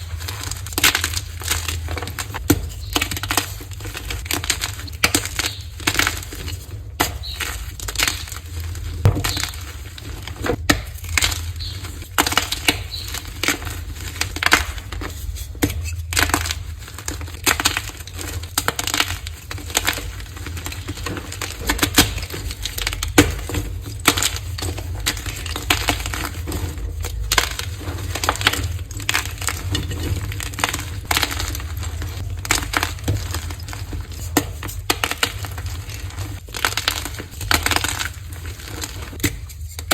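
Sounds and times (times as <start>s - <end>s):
chalk blocks crunching: 0.0s - 39.9s.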